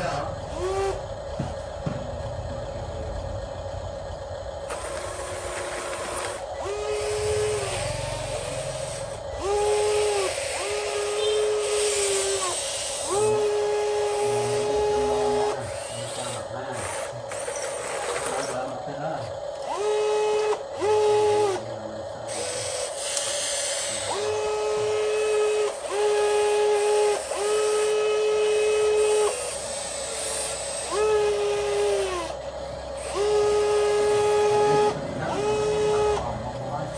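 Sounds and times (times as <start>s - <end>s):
electric motors humming: 0.0s - 36.9s
motor whines: 0.0s - 36.9s.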